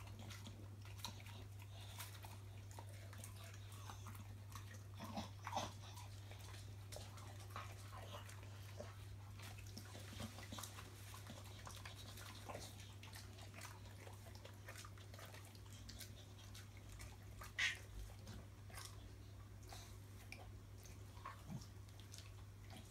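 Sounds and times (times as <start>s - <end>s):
dog licking and chewing: 0.0s - 22.9s.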